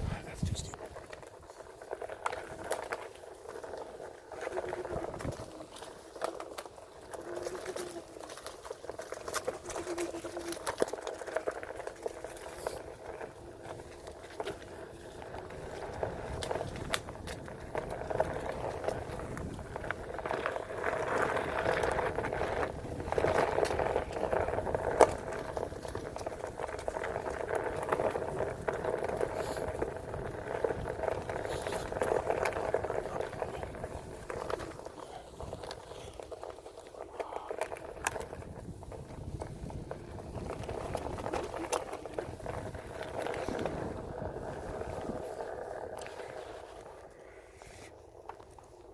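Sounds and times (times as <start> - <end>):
tyre crackling over dirt and gravel: 0.0 - 48.9.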